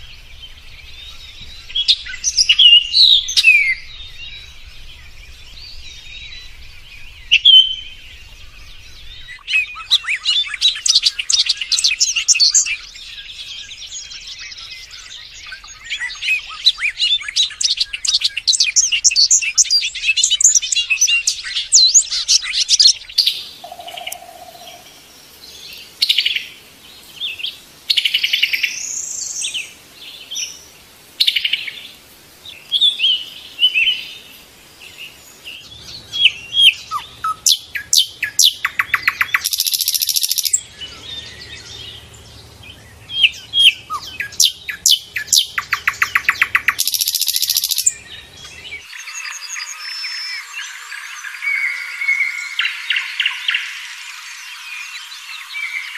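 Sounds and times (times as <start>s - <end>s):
songbird chirping and trilling: 0.0s - 55.9s.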